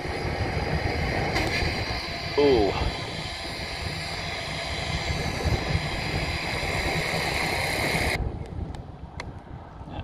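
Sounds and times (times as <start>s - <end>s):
rc helicopter rotors whining: 0.0s - 8.2s
wind rumble on microphone: 0.0s - 10.0s.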